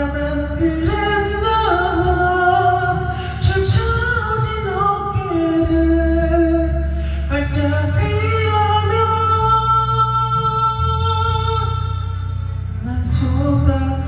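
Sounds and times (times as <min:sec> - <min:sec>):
steady bass line: 0:00.0 - 0:14.0.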